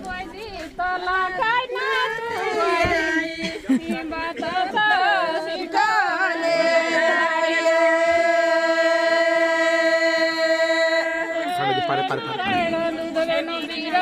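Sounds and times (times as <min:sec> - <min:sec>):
person singing folk song: 0:00.0 - 0:14.0.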